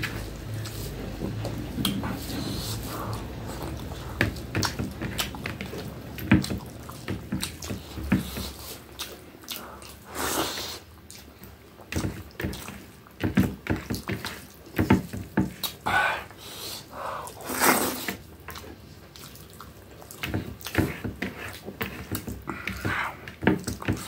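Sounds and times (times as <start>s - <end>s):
person chewing wetly: 0.0s - 24.0s.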